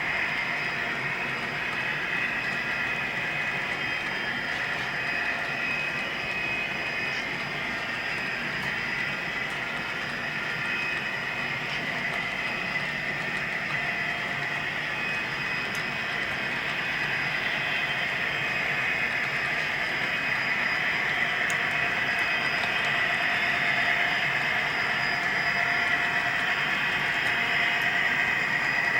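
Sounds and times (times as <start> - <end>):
model train whirring: 0.0 - 28.9.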